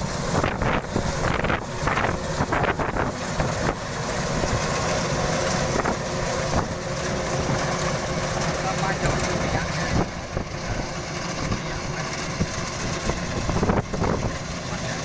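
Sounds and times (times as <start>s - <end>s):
wind gusts on microphone: 0.0s - 7.8s, 9.2s - 15.0s
combine harvester running: 0.0s - 15.0s.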